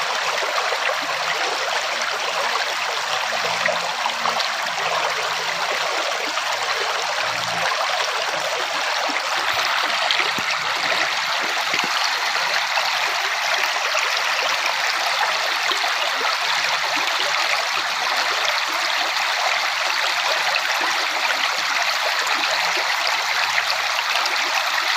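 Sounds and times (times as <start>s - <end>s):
stream water rushing: 0.0s - 24.9s.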